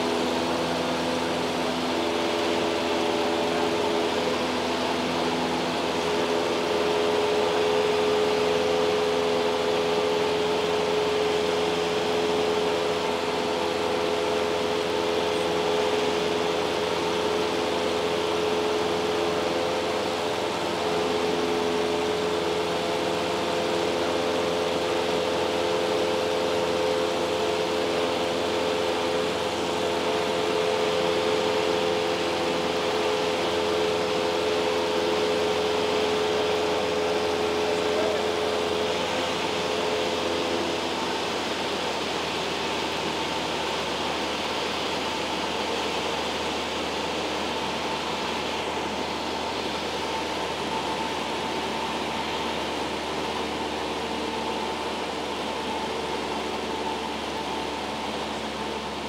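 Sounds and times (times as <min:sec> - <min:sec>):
light airplane engine and propeller: 0:00.0 - 0:59.0
steady humming tones: 0:00.0 - 0:59.0.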